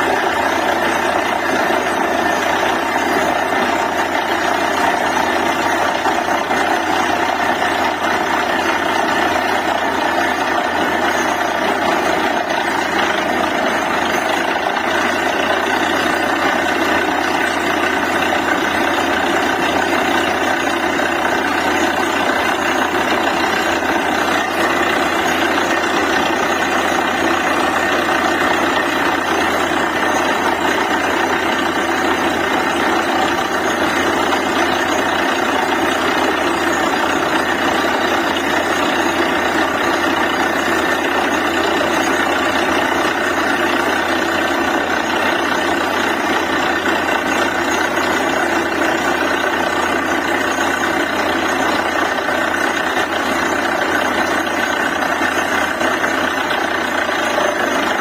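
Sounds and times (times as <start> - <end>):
drilling rig droning: 0.0 - 58.0.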